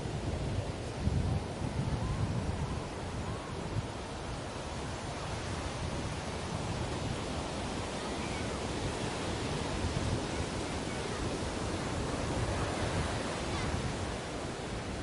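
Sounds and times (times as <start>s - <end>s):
ocean waves washing onto beach: 0.0s - 15.0s.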